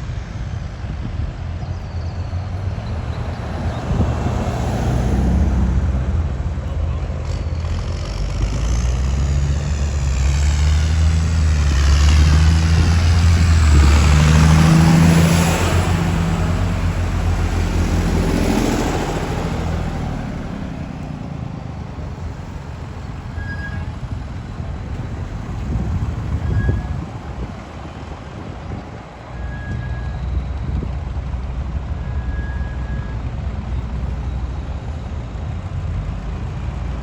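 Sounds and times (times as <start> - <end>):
vintage tractor engines driving past: 0.0 - 37.0.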